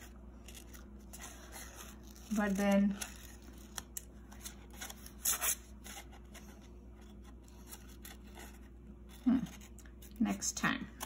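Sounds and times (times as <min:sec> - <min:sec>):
scissors cutting paper: 0:00.0 - 0:11.0.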